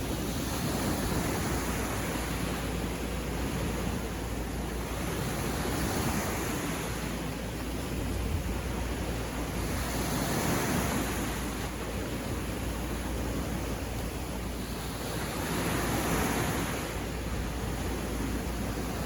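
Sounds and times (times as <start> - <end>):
ocean surf washing onto shore: 0.0 - 19.0.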